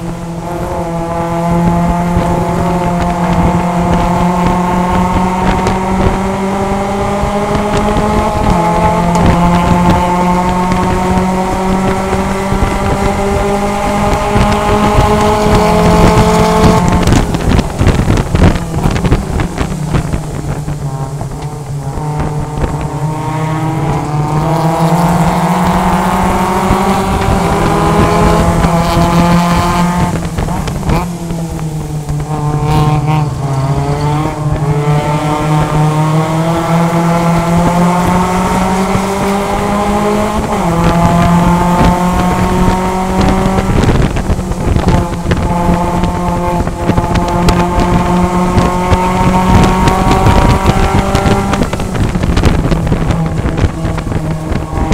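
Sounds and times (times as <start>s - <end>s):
race car engine: 0.0s - 54.9s.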